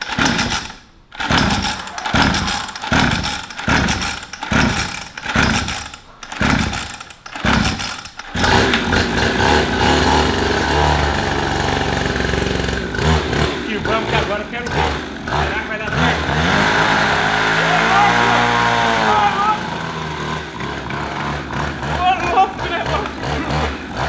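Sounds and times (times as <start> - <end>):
recoil starter pulls: 0.0 - 24.0
small engine running: 0.0 - 24.0.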